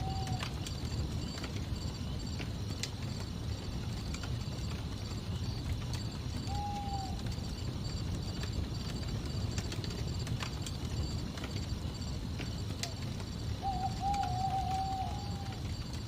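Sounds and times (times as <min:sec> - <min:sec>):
campfire flames rumbling: 0:00.0 - 0:16.0
crickets chirping: 0:00.0 - 0:16.0
wood crackling and popping: 0:00.0 - 0:16.0.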